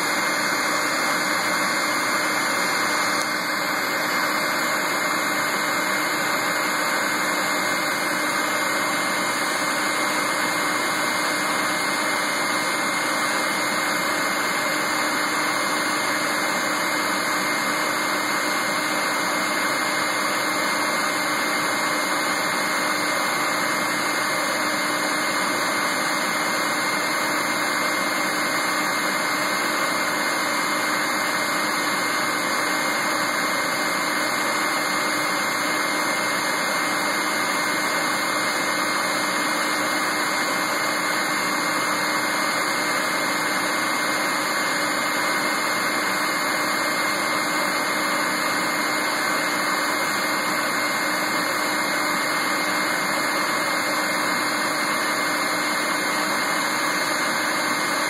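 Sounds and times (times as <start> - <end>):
vacuum motor with high whine: 0.0 - 58.0.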